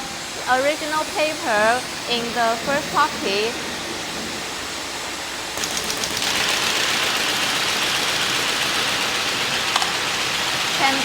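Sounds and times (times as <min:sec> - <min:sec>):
folding machine rushing hiss: 0:00.0 - 0:11.0.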